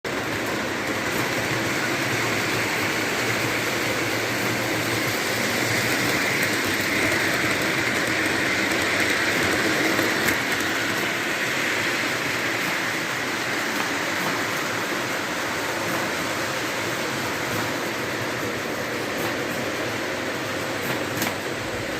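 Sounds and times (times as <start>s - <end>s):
toy train wheels and motor whirring: 0.1s - 21.9s.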